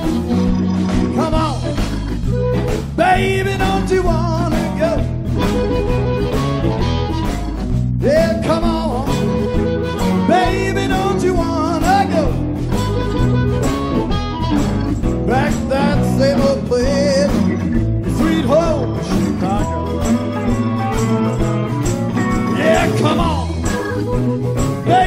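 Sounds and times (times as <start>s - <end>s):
live blues band playing: 0.0s - 25.0s.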